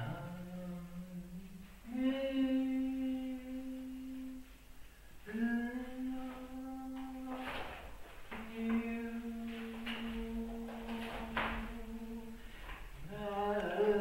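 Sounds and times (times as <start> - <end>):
person humming: 0.0 - 4.6, 5.2 - 14.0.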